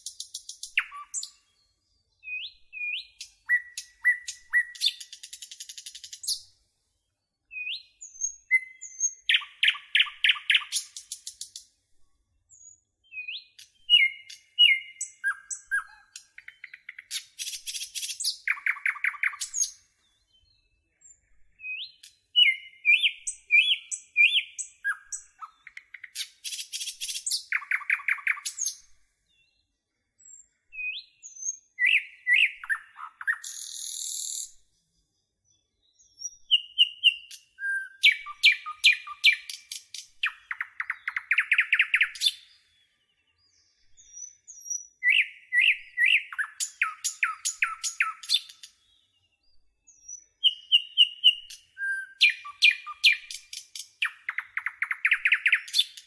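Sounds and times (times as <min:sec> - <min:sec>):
birdsong with chirps and trills: 0:00.0 - 0:56.0.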